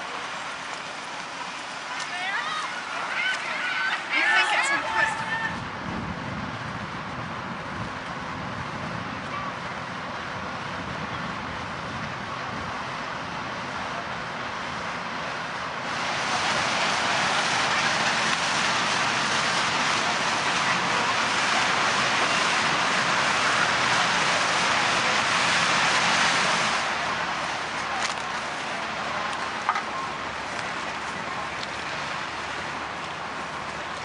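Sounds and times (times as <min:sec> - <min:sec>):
paddle wheel churning water: 0:00.0 - 0:34.0.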